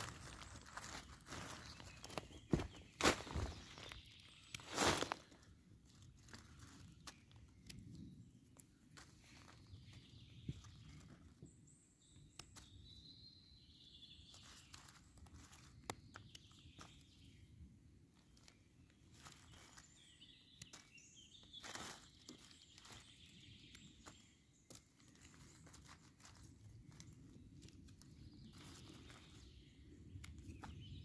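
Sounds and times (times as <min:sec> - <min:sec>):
rustling on forest floor: 0:00.0 - 0:31.0.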